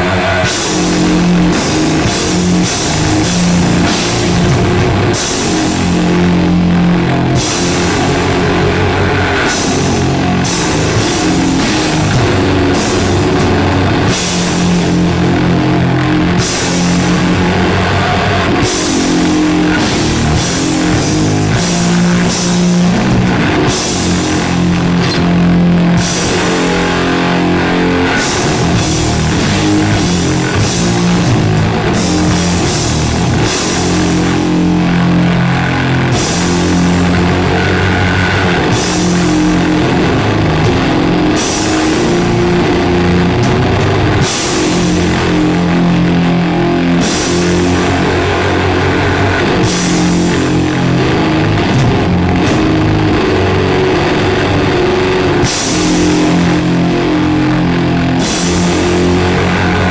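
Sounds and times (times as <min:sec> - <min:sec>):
distorted electric guitar chords: 0:00.0 - 0:59.9
drum kit with cymbal crashes: 0:00.0 - 0:59.9.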